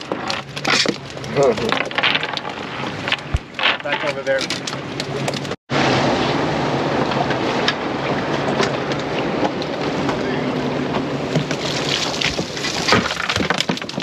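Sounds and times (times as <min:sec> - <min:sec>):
boat engine running: 0:00.0 - 0:13.0
wind and water rushing: 0:00.9 - 0:14.0.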